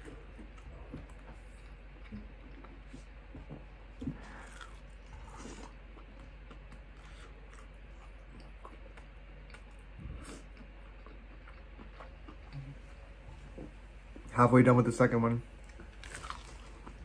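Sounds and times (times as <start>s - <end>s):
person chewing food: 0.0s - 14.3s, 15.6s - 17.0s.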